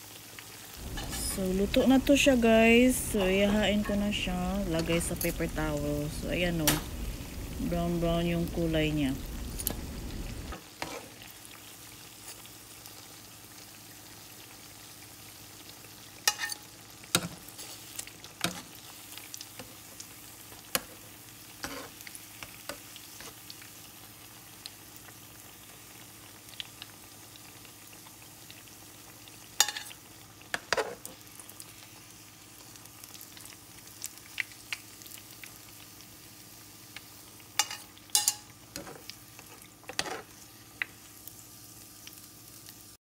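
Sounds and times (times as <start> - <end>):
fritters frying in oil: 0.0 - 43.0.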